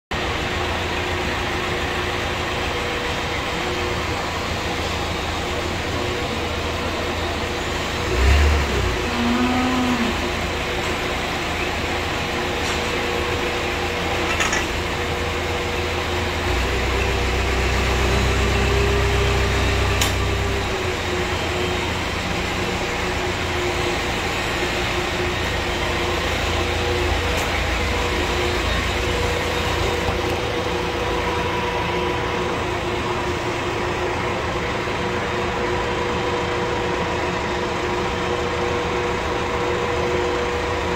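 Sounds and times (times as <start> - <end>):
tractor engine running: 0.1 - 40.9.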